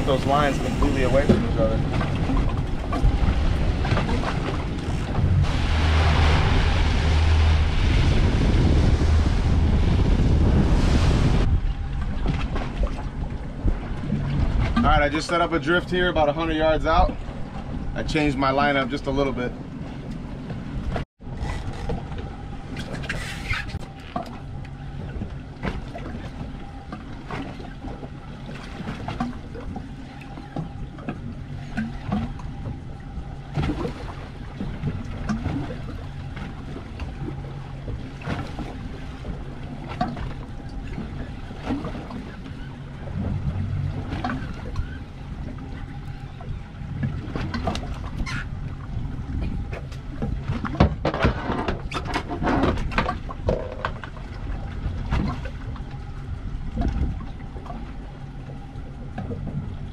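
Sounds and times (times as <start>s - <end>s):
water slapping boat hull: 0.0s - 59.9s
wind: 0.0s - 59.9s.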